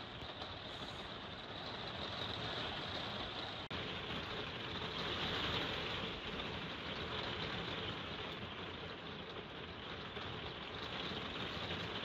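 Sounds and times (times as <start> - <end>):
heavy rain on a roof: 0.0 - 12.0.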